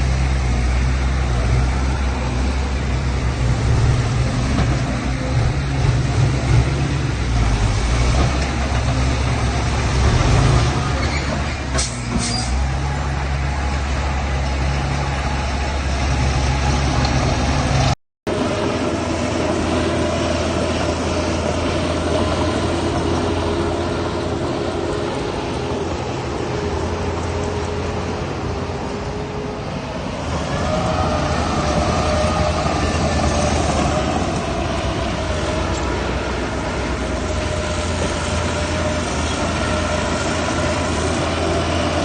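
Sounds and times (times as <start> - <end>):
diesel engine rumbling: 0.0 - 42.0.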